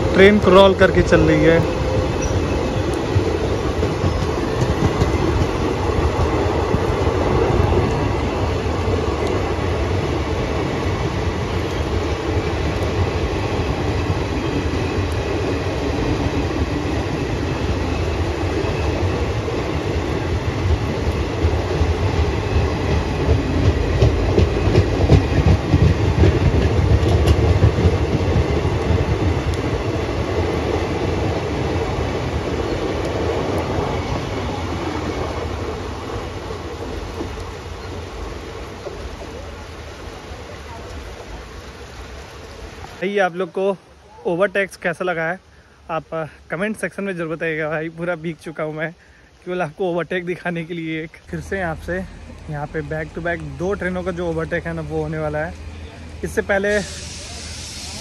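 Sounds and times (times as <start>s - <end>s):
rail clicks: 0.0s - 43.0s, 49.6s - 58.0s
train wheels rumbling on rails: 0.0s - 43.6s, 46.0s - 58.0s.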